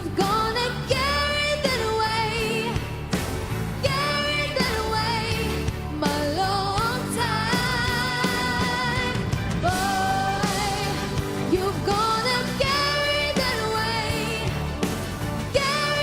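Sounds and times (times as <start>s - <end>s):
woman singing with vibrato: 0.0s - 3.0s, 3.8s - 14.7s, 15.5s - 16.0s
band accompaniment: 0.0s - 16.0s.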